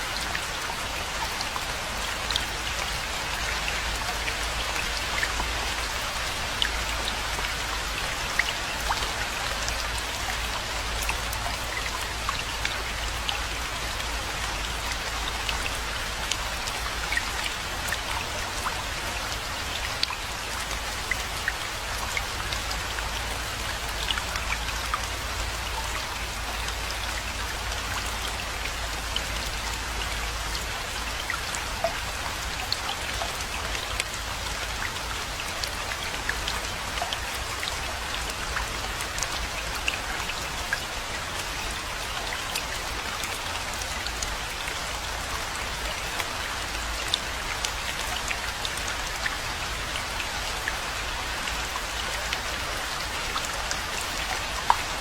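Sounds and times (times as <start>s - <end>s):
rainfall hiss: 0.0s - 55.0s.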